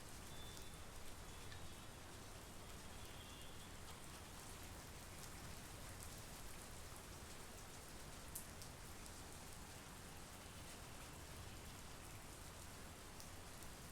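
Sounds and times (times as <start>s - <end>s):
rain falling: 0.0s - 13.9s.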